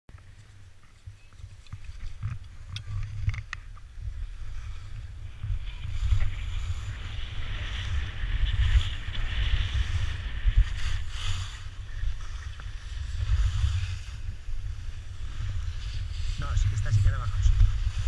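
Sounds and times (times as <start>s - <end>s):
wind buffeting microphone: 1.0s - 18.0s
skis scraping over snow: 1.5s - 18.0s.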